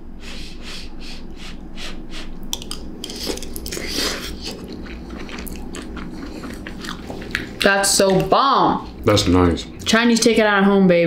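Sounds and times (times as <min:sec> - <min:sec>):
people chewing crunchy food: 0:00.3 - 0:09.9.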